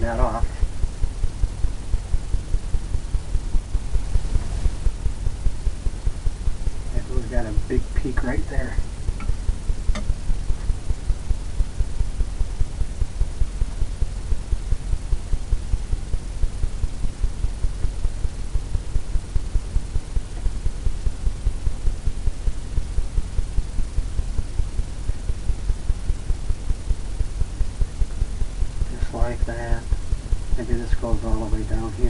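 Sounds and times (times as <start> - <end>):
throbbing low hum: 0.0 - 32.0.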